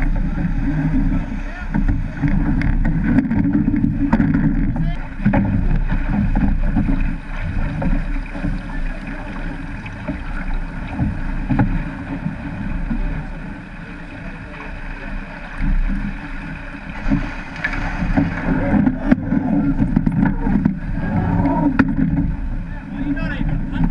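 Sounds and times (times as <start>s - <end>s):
wind buffeting microphone: 0.0s - 13.7s, 15.6s - 23.9s
rushing water and breaking surf: 0.0s - 23.9s.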